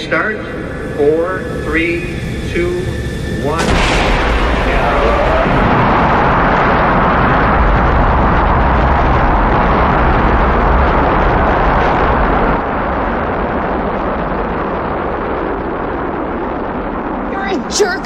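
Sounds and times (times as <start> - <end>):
rocket engines roaring: 0.0 - 18.0.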